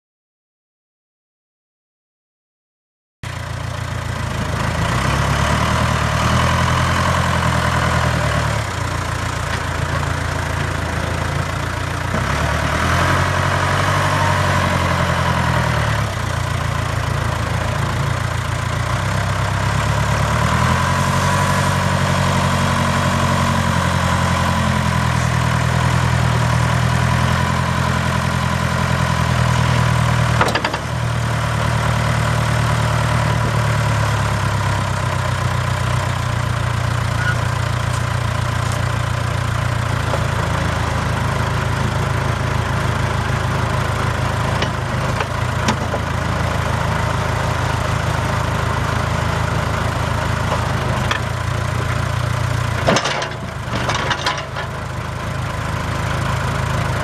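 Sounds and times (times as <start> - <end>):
diesel engine revving: 3.3 - 57.0.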